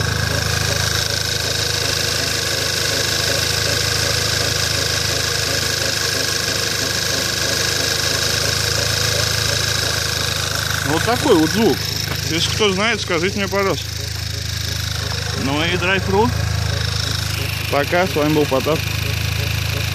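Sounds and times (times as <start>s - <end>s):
car engine idling: 0.0s - 19.9s
repeated creaking in engine: 0.0s - 19.9s.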